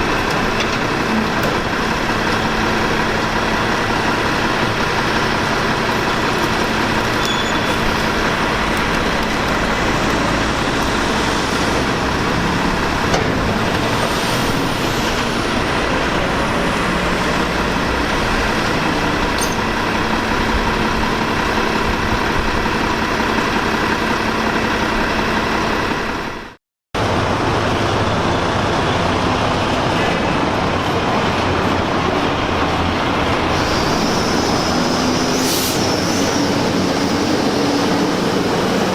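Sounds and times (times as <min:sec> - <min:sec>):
garbage truck drone with whine: 0:00.0 - 0:38.9.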